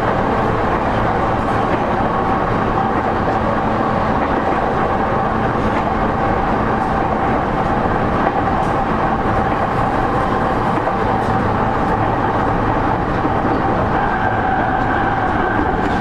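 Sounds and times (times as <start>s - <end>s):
train motors and wheels rumbling: 0.0s - 16.0s.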